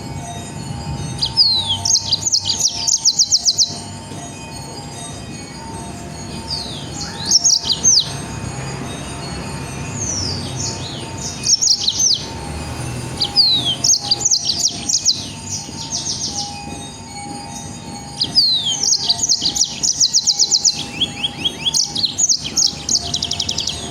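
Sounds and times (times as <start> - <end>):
songbird whistling song: 1.1 - 3.9, 5.5 - 16.8, 18.0 - 23.9.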